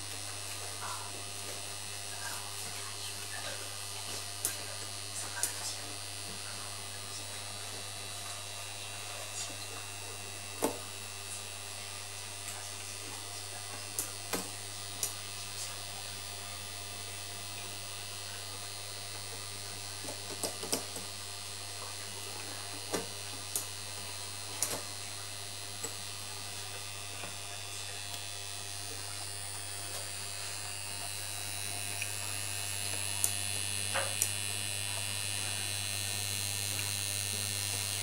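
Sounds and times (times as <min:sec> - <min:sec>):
electric motor buzzing: 0:00.0 - 0:38.0.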